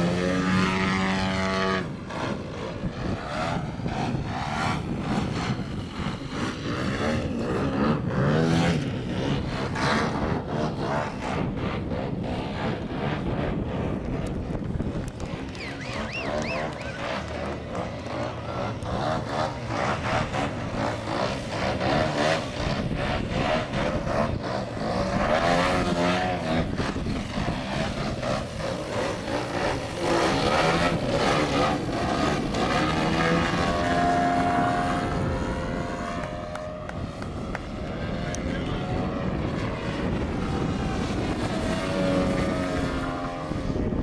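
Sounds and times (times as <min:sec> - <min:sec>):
model airplane engine and propeller: 0:00.0 - 0:44.0.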